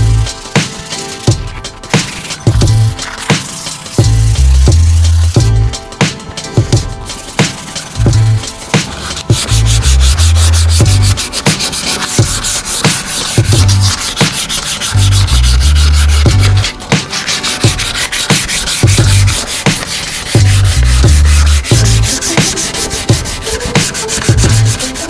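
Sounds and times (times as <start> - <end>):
hand sanding metal panel: 0.0 - 5.5, 6.7 - 25.0
background music bass line: 0.0 - 25.0.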